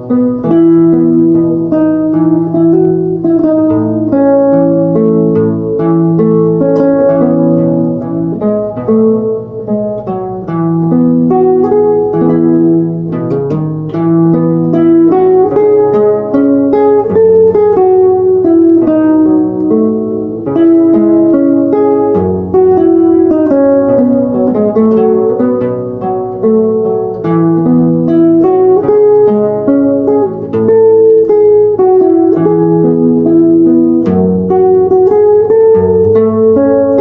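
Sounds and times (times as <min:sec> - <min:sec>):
fingerpicked guitar ballad: 0:00.0 - 0:37.0.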